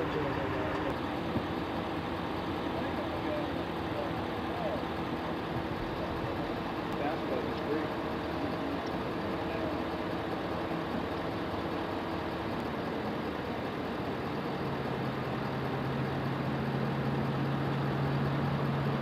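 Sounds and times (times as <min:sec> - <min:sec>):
low steady drone: 0:00.0 - 0:19.0
outdoor hum: 0:00.0 - 0:19.0
vehicle engine idling: 0:00.0 - 0:19.0.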